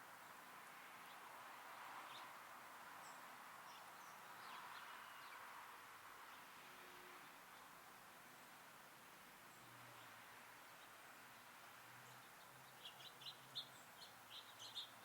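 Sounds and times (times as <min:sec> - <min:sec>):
songbirds chirping: 0:00.0 - 0:15.0
steady background hiss: 0:00.0 - 0:15.0.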